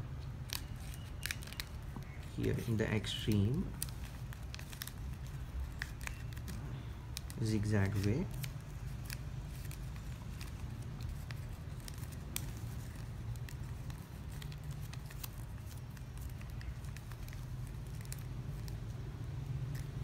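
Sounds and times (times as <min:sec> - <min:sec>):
plastic ribbon crinkling: 0:00.4 - 0:20.0.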